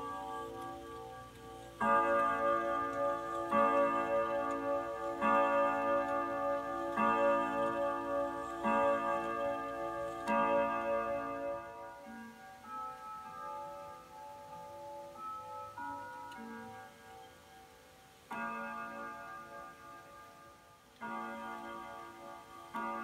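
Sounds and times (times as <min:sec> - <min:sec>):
clock chime rods ringing: 0:00.0 - 0:23.0.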